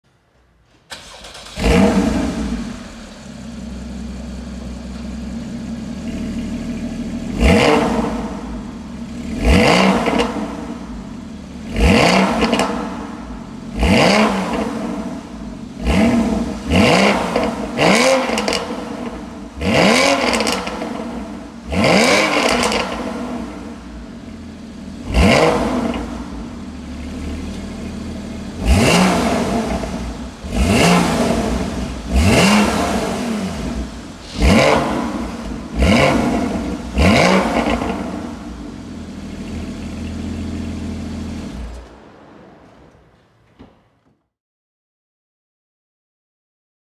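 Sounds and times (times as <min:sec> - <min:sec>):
car engine starting and idling: 0:00.6 - 0:44.2
engine revving: 0:00.9 - 0:04.6, 0:05.9 - 0:43.7.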